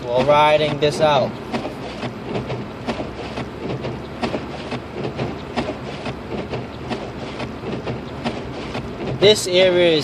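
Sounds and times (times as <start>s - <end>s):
sharp ticks and knocks: 0.0s - 9.8s
tyre and engine rumble: 0.0s - 10.0s.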